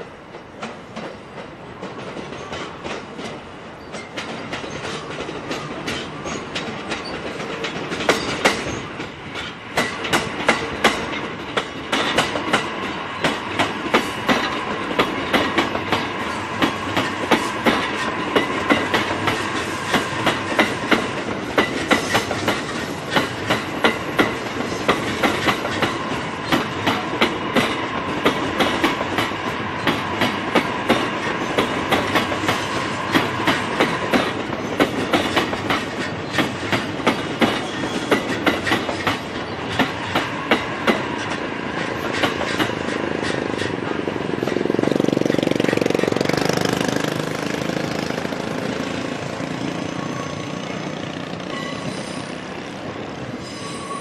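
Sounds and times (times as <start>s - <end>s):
train rolling past: 0.0s - 54.0s
wheels clacking over rail joints: 0.1s - 52.7s.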